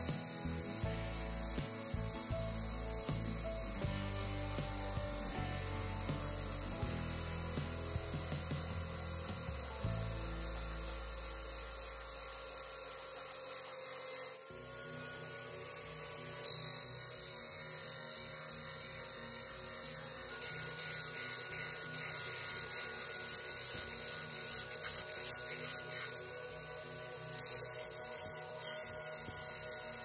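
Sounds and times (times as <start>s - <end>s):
drill bit grinding hiss: 0.0s - 30.0s.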